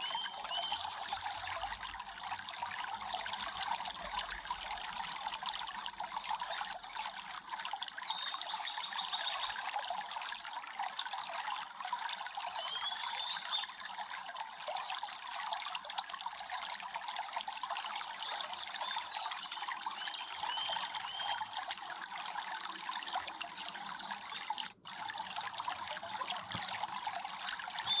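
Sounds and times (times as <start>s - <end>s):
stream babbling over stones: 0.0s - 28.0s.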